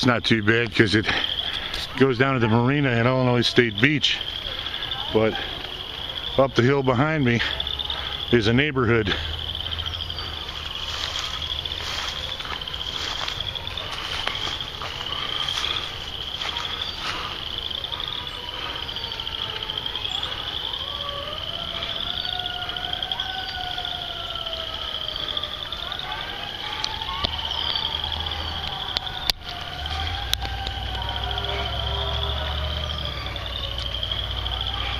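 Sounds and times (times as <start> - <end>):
distant fire truck sirens: 0.0 - 34.9
insects trilling: 0.0 - 34.9.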